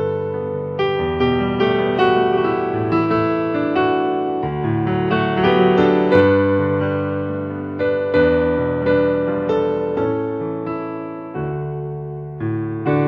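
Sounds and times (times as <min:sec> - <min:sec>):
solo piano chords: 0:00.0 - 0:13.0.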